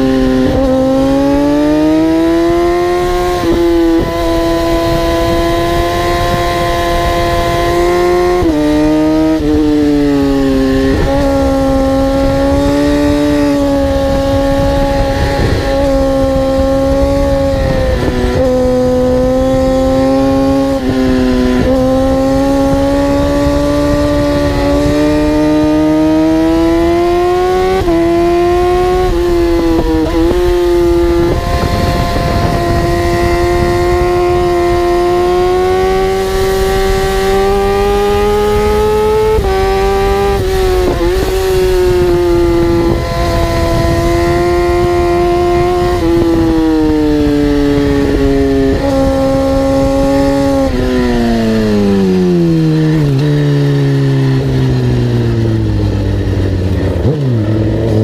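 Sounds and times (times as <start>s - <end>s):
vehicle engine accelerating: 0.0s - 58.0s.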